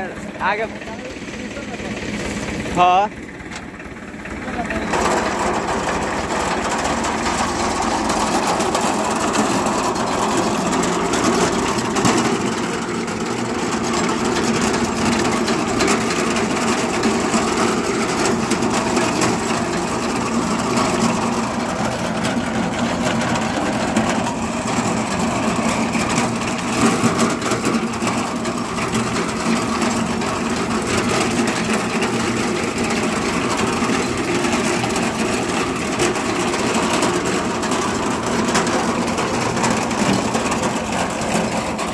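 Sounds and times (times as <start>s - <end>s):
tractor engine running: 0.0s - 41.9s
reaper clattering: 1.2s - 41.9s.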